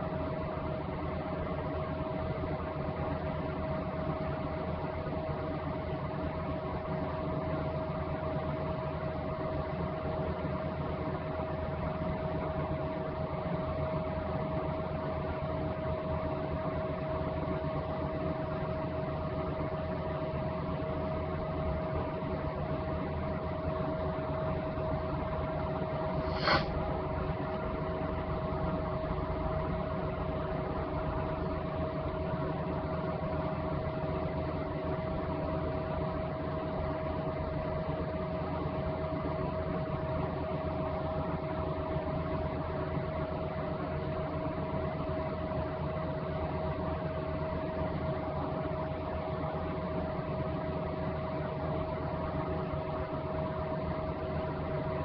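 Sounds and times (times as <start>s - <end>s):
steady droning hum: 0.0s - 55.0s.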